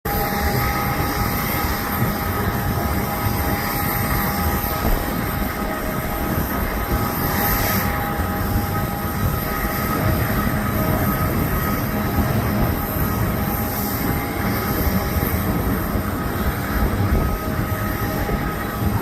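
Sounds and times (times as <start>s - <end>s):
airliner engine rumble and whine: 0.1s - 19.0s.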